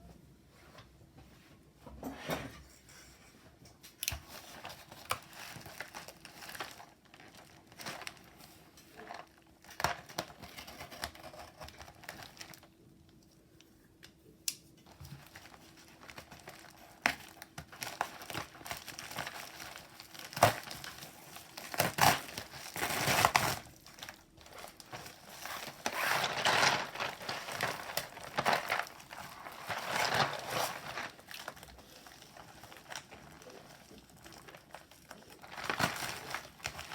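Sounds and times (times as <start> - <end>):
packaging crinkling and tearing: 4.0 - 13.3, 14.8 - 36.9.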